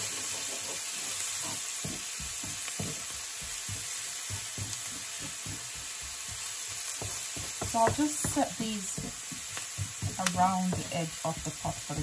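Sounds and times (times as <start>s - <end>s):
food sizzling in a frying pan: 0.0s - 12.0s
spatula knocking and scraping pan: 0.0s - 12.0s.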